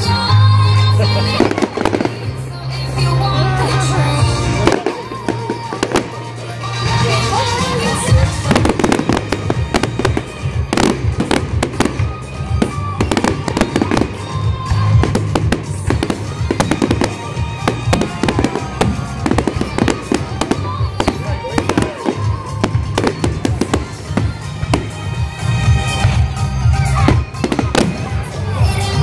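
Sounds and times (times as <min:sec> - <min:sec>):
music from loudspeakers: 0:00.0 - 0:29.0
fireworks bangs and crackles: 0:01.2 - 0:03.9, 0:04.5 - 0:29.0.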